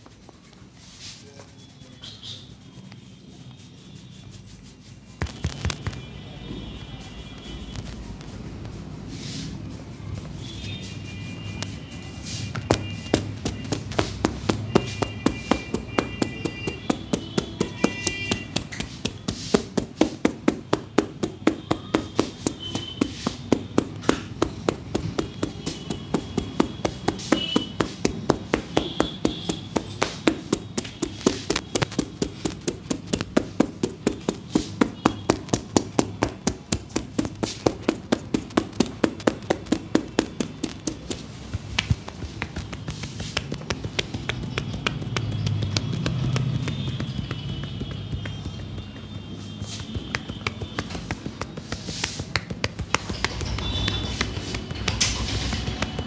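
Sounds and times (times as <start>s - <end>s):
percussive massage tapping: 0.0s - 0.6s, 4.0s - 8.9s, 9.6s - 56.0s.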